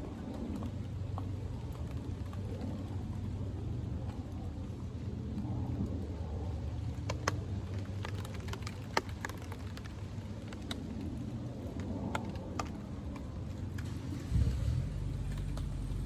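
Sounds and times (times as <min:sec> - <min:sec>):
raindrops ticking on a tarp: 0:00.0 - 0:16.0
steady low rumble: 0:00.0 - 0:16.0.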